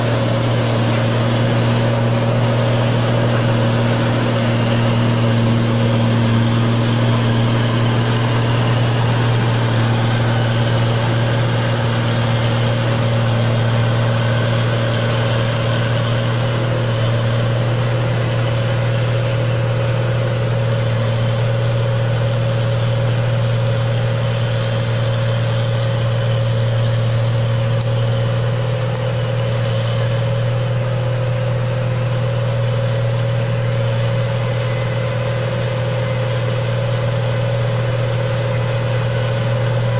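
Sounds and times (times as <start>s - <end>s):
machine engine low hum: 0.0s - 39.9s.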